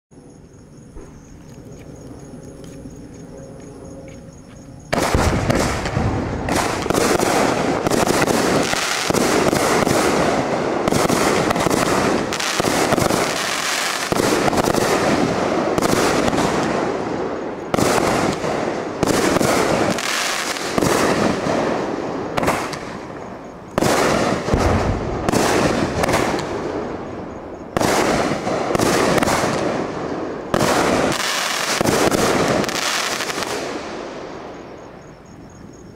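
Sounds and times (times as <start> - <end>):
fireworks bangs and crackle: 4.9 - 35.2.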